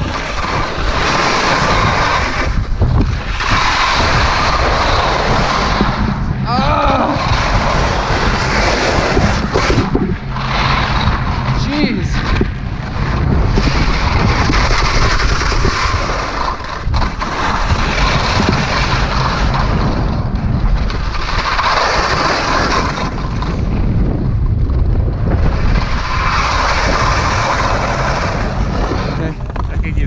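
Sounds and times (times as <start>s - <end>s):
skis scraping over snow: 0.0s - 6.2s, 6.9s - 30.0s
wind buffeting microphone: 0.0s - 30.0s.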